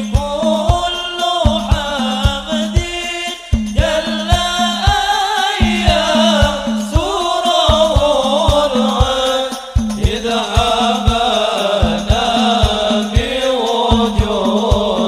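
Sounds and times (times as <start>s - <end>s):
person singing ornamented melody: 0.0s - 15.0s
steady drum beat: 0.0s - 15.0s.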